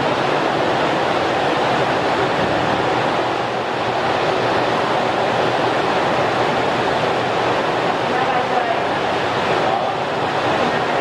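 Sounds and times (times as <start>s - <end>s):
underwater rushing noise: 0.0s - 11.0s.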